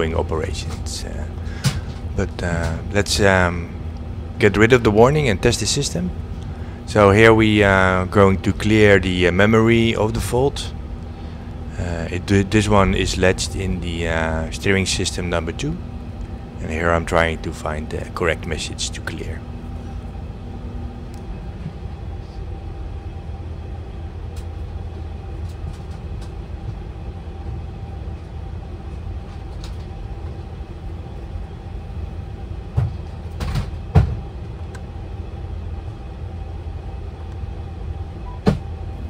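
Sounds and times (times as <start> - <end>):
faint steady whine: 0.0 - 39.0
ventilation fans humming: 0.0 - 39.0.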